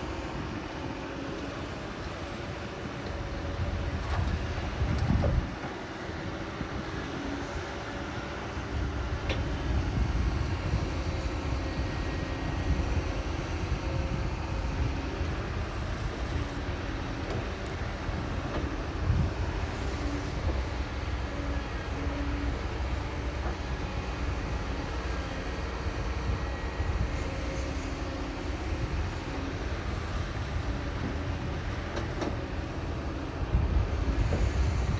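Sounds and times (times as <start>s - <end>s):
diesel machinery rumbling: 0.0s - 34.9s.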